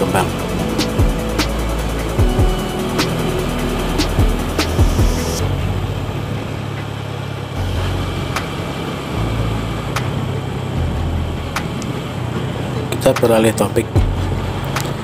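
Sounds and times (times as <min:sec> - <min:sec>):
motorbike engine hum: 0:00.0 - 0:15.0
wind and road noise: 0:00.0 - 0:15.0.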